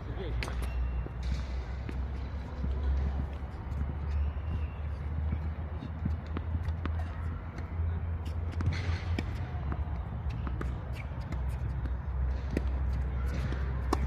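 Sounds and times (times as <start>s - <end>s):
ball bouncing on a court: 0.3s - 14.0s.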